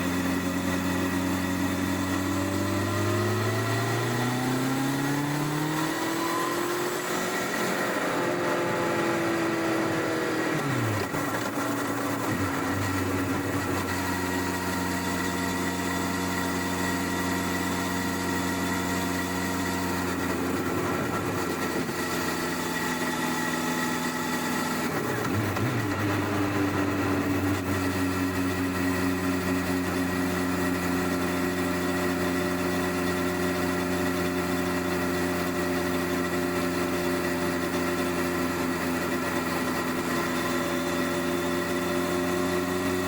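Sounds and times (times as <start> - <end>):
motorcycle engine idling and revving: 0.0 - 43.0.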